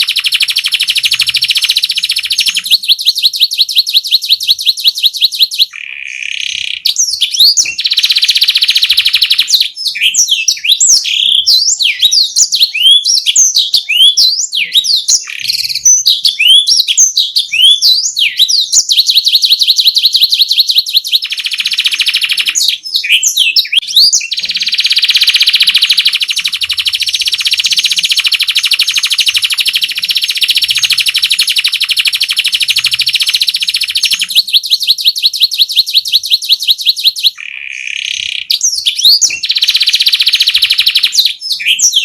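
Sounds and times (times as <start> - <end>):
canary singing trills: 0.0 - 42.0.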